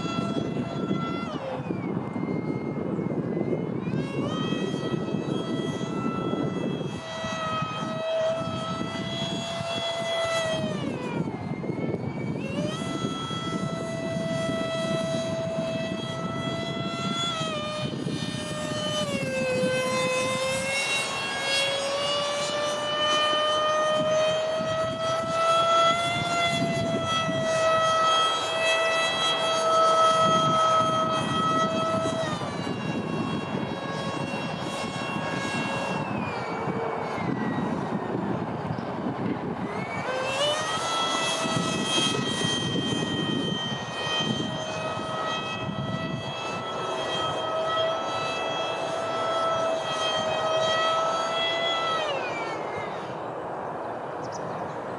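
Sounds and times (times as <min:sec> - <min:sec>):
electric ducted fan whining: 0:00.0 - 0:54.9
wind rumbling on microphone: 0:00.0 - 0:54.9.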